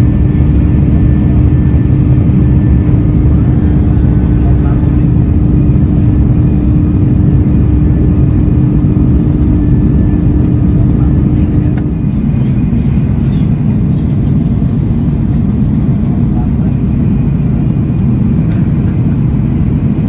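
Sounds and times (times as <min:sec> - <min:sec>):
jet engines rumbling in cabin: 0:00.0 - 0:20.0
steady hum: 0:00.0 - 0:20.0.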